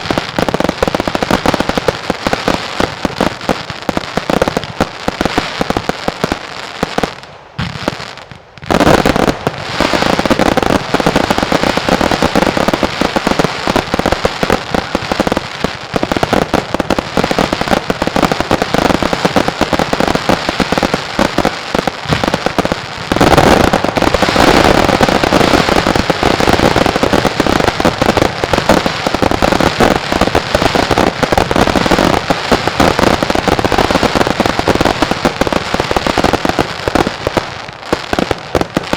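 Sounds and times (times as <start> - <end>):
barrage of firecrackers: 0.0 - 38.9.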